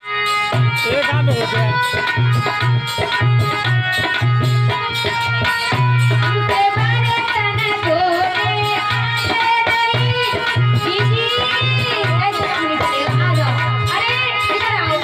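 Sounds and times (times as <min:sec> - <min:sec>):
plucked string melody: 0:00.0 - 0:15.0
repeating drum beat: 0:00.4 - 0:15.0.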